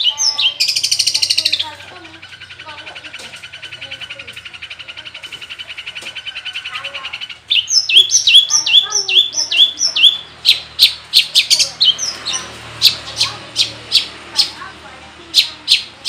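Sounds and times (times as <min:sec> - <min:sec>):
shrike singing: 0:00.0 - 0:16.0.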